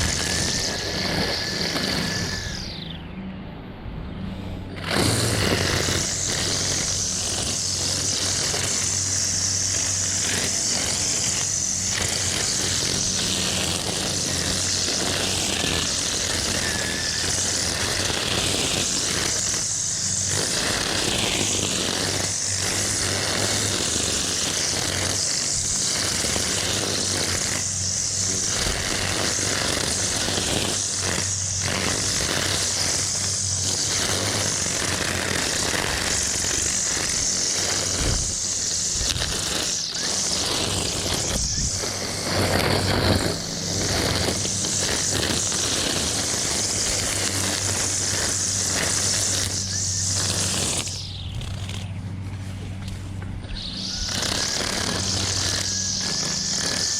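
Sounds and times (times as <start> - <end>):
strong hiss: 0.0 - 2.8, 4.3 - 56.9
small engine running: 0.0 - 56.9.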